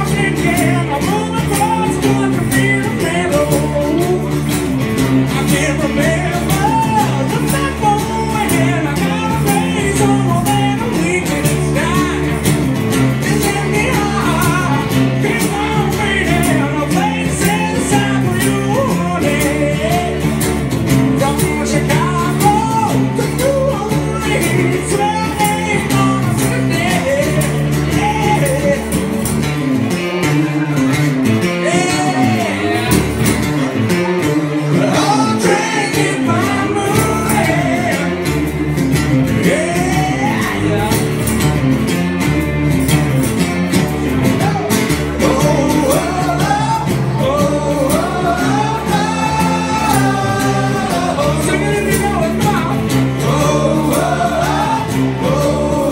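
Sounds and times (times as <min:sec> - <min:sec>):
man singing: 0:00.0 - 0:41.7, 0:43.9 - 0:55.9
acoustic guitars playing: 0:00.0 - 0:55.9.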